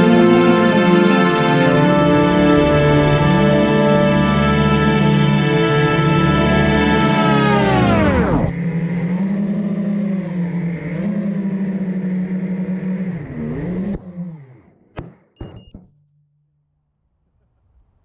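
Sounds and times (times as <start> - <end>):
quadcopter motors humming: 0.0 - 15.0.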